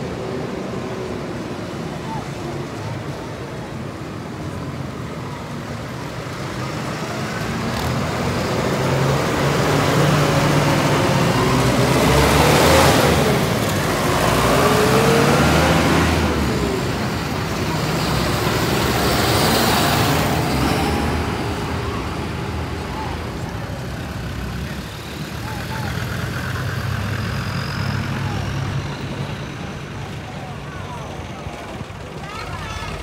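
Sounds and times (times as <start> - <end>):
diesel tractors driving past: 0.0 - 33.0.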